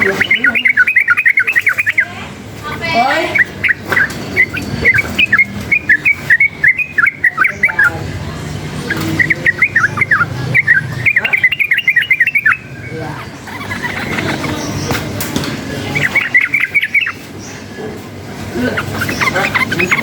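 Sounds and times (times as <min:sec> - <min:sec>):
bird singing chirping notes: 0:00.0 - 0:20.0.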